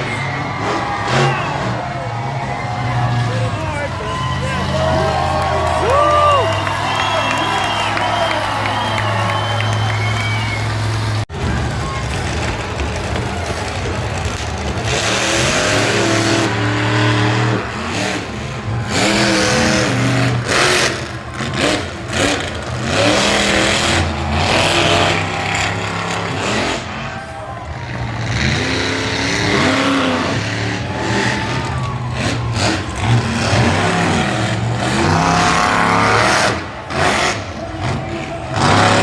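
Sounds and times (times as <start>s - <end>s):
monster truck engine revving: 0.0s - 39.0s.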